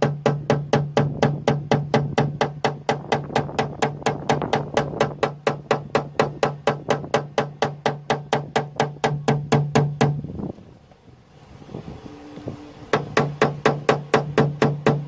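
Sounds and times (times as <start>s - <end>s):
hammer tapping on sheet metal: 0.0s - 10.2s, 12.9s - 15.0s.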